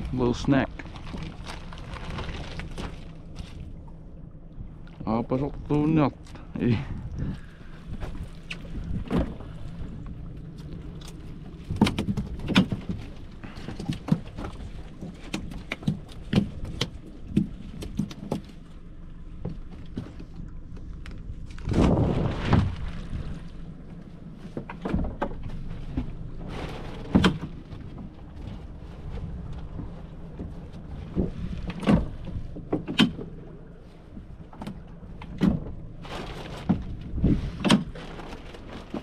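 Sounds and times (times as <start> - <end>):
low steady hum: 0.0 - 39.0
knocks and thumps against hull: 4.6 - 39.0.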